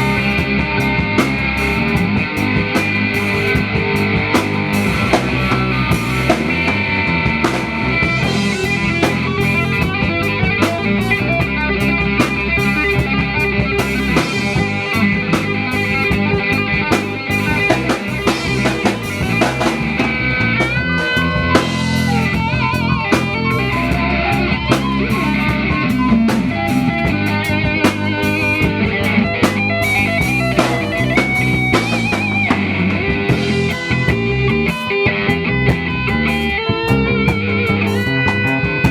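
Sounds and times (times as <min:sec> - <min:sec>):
guitar lead with bent notes: 0:00.0 - 0:38.9
live rock band playing: 0:00.0 - 0:38.9.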